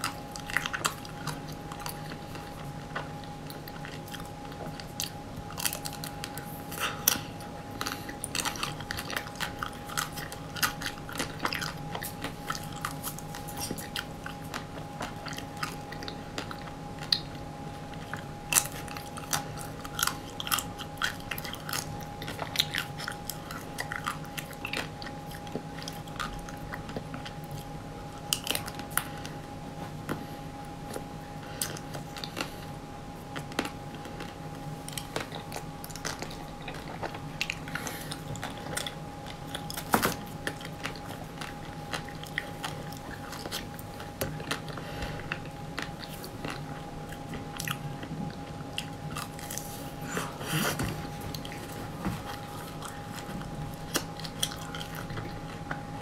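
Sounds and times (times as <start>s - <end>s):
faint electrical hum: 0.0s - 56.0s
mouth sounds chewing: 0.0s - 56.0s.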